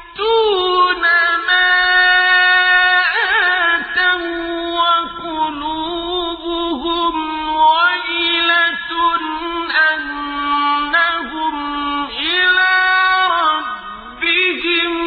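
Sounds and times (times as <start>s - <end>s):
person chanting melodic recitation: 0.0s - 15.0s.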